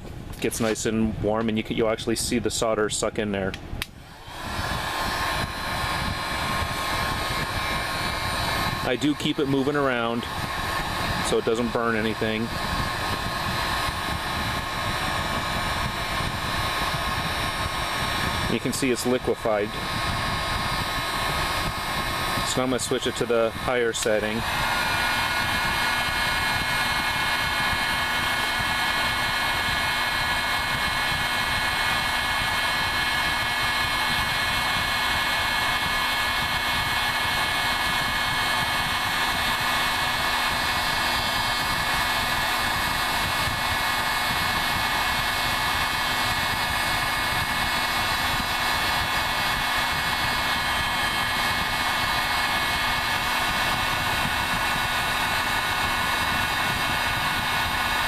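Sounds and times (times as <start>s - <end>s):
heat gun blowing air: 0.0s - 58.0s
high fan motor whine: 0.0s - 58.0s.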